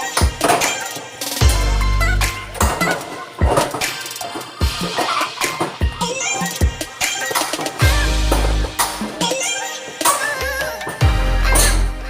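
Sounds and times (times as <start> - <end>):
drum beat: 0.0 - 11.8.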